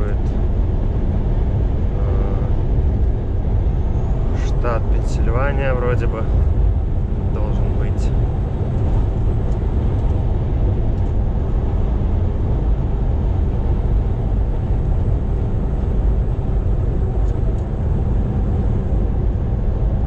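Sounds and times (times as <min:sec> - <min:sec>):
road and tyre noise: 0:00.0 - 0:20.0
truck engine drone in cab: 0:00.0 - 0:20.0.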